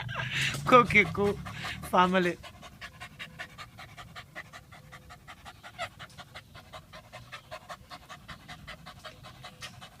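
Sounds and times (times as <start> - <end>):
dog panting: 0.0 - 10.0.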